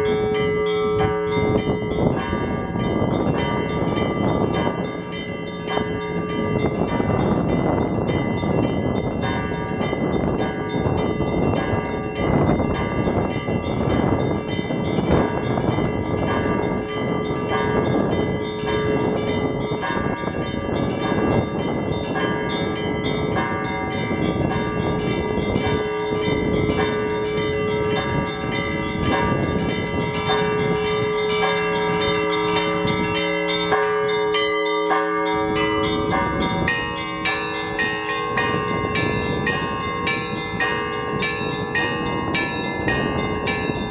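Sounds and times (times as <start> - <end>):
church bells pealing: 0.0 - 43.9
wind on microphone: 0.0 - 43.9.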